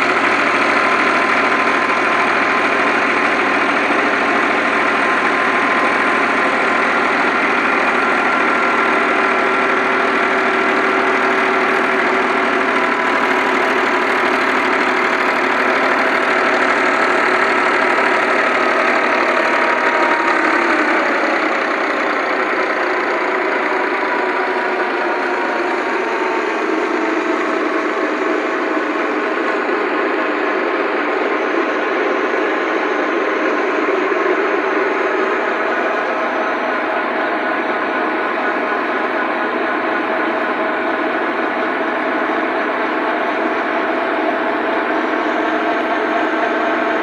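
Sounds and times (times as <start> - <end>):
tractor engine running: 0.0 - 47.0
wheat thresher running: 0.0 - 47.0.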